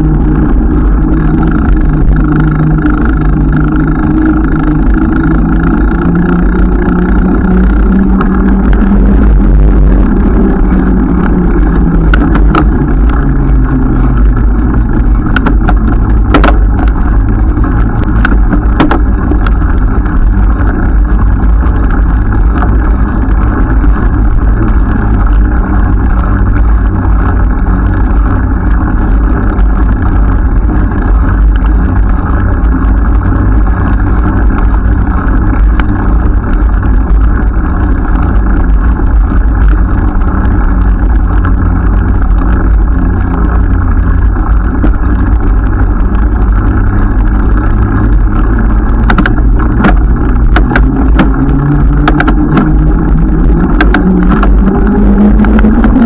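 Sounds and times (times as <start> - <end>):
riding noise rumble: 0.0 - 56.0
road noise: 0.0 - 56.0
wind on microphone: 0.0 - 56.0.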